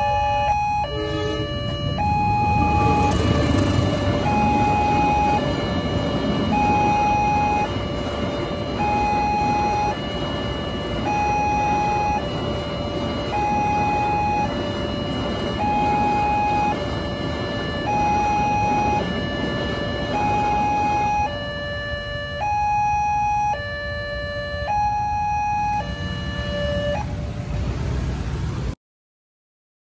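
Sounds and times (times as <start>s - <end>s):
two-tone warning siren: 0.0s - 28.0s
rumble of passing train wagons: 0.0s - 28.8s.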